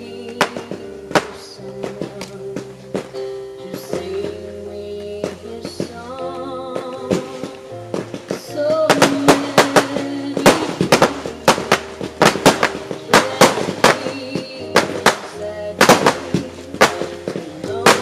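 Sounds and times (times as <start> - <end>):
fireworks battery firing shots: 0.0 - 18.0.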